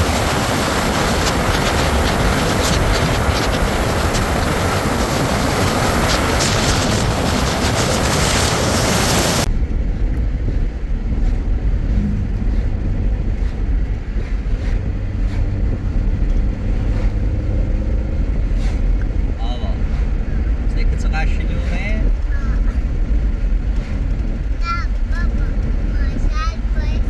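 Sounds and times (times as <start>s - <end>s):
loud rushing noise: 0.0s - 26.9s
engine and road rumble: 0.0s - 27.0s.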